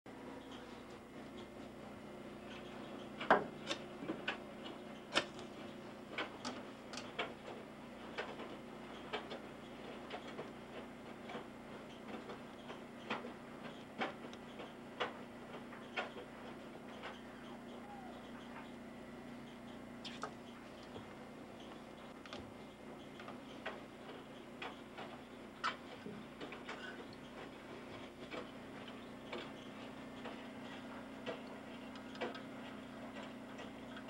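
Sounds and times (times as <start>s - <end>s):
steady low hum: 0.1s - 34.0s.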